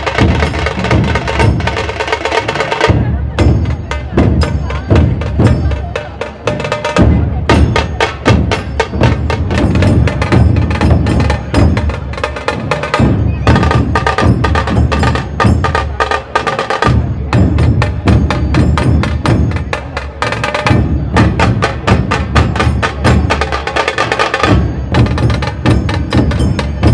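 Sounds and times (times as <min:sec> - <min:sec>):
deep barrel drum beat: 0:00.0 - 0:26.9
sharp cracking drums: 0:00.0 - 0:26.9.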